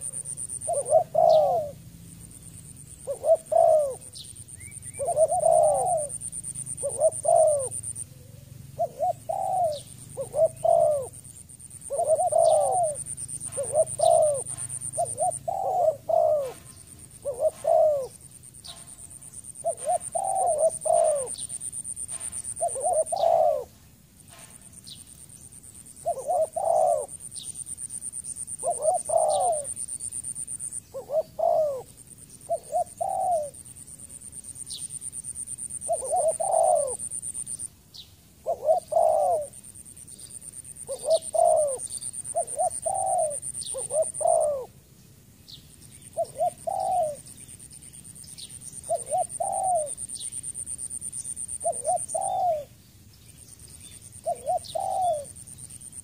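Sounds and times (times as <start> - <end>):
dove cooing: 0.0 - 1.9, 2.6 - 23.8, 26.0 - 33.8, 34.7 - 37.7, 38.4 - 44.8, 46.1 - 47.3, 48.7 - 52.8, 54.2 - 56.0
small birds chirping: 0.0 - 23.9, 24.7 - 56.0.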